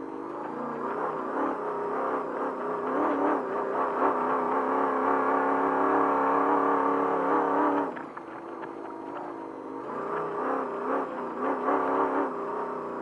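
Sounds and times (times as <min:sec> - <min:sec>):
race truck engine revving: 0:00.0 - 0:13.0.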